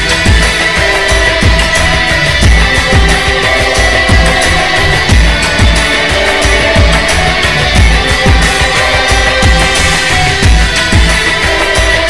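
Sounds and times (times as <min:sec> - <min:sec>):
deep drum beat: 0:00.0 - 0:12.0
sustained tones: 0:00.0 - 0:12.0.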